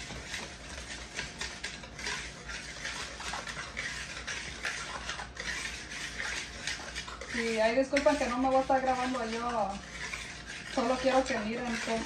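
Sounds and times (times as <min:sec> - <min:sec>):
whisk scraping in bowl: 0:00.0 - 0:12.0.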